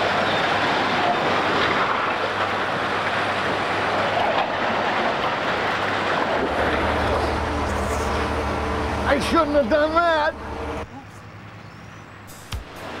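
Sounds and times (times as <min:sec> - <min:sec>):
demolition machinery din: 0:00.0 - 0:11.1
low engine hum: 0:00.0 - 0:13.0.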